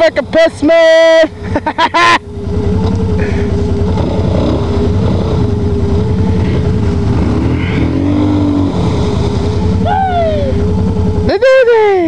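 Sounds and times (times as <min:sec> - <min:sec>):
quad engine running under load: 0:00.0 - 0:12.0.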